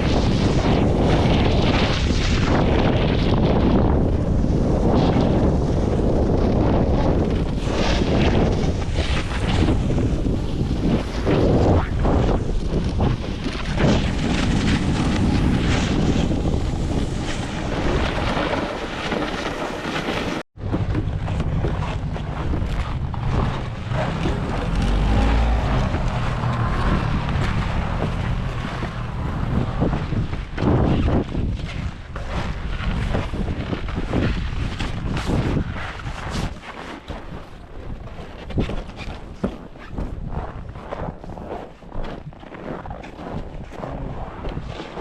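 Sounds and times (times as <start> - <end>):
blizzard wind buffeting microphone: 0.0 - 45.0.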